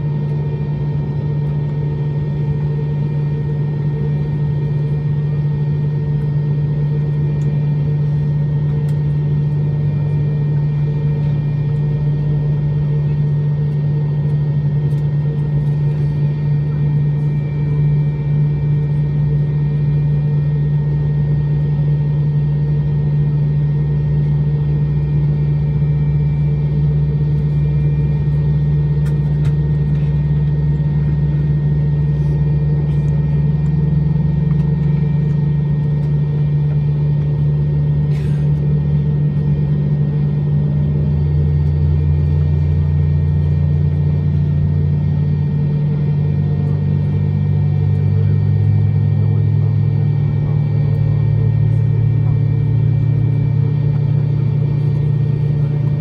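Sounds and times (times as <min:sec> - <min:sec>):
airliner cabin drone: 0:00.0 - 0:56.0
deeper machinery hum: 0:00.0 - 0:56.0.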